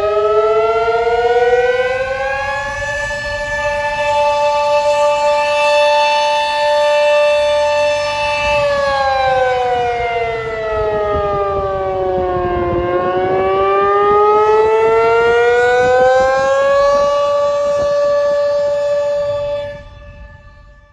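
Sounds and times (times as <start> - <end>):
warning siren rising and falling: 0.0 - 20.9.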